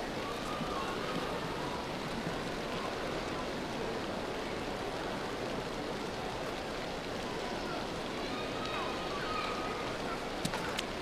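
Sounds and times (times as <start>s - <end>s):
pool hall hiss: 0.0s - 11.0s.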